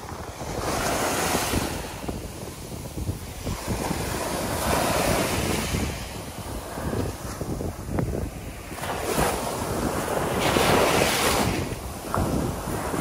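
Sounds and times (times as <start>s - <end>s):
waves washing onto beach: 0.0s - 13.0s
wind buffeting microphone: 0.0s - 13.0s.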